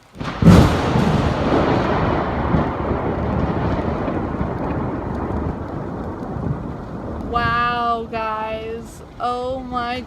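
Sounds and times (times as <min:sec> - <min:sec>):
loud thunder rumbling: 0:00.0 - 0:10.0.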